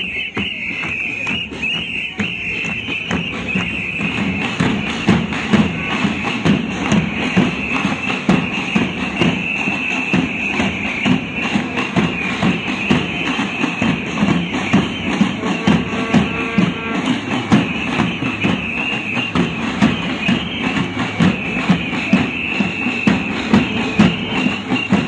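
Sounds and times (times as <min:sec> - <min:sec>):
drums beating: 0:00.0 - 0:25.0.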